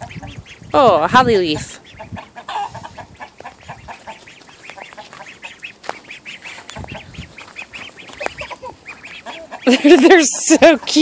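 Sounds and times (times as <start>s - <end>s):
young ducks peeping: 0.0s - 11.0s.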